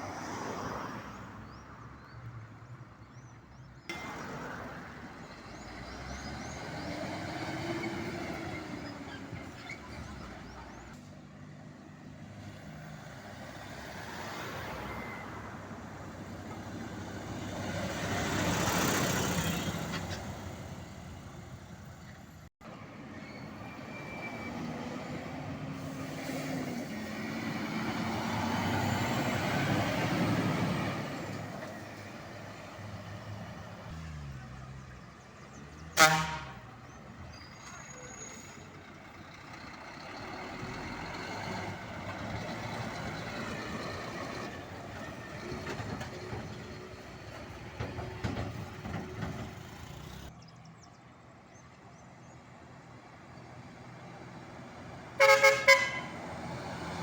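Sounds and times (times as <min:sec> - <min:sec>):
trucks passing on road: 0:00.0 - 0:57.0.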